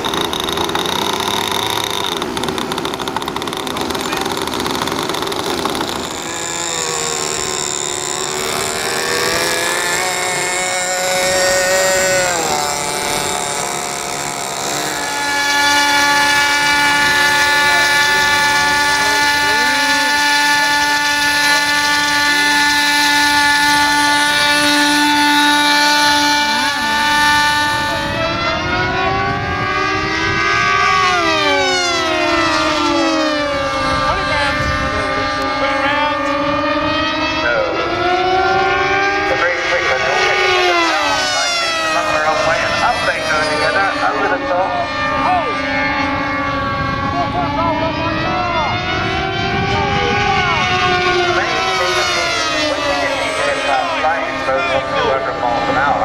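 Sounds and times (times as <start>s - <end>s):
model aircraft engines revving: 0.0s - 56.0s.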